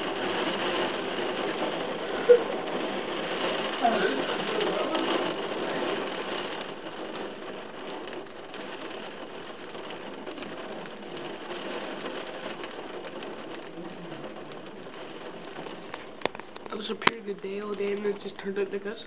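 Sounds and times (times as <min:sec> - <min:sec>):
heavy rain behind a window: 0:00.0 - 0:19.0.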